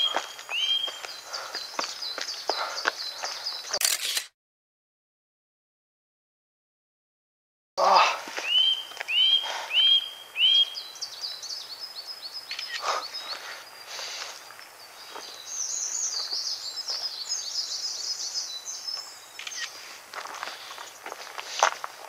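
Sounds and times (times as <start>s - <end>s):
songbirds twittering: 0.0s - 3.8s, 7.9s - 22.0s.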